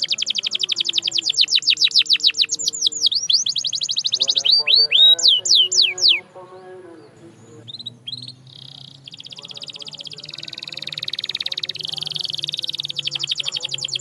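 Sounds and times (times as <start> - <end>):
canary singing: 0.0 - 14.0.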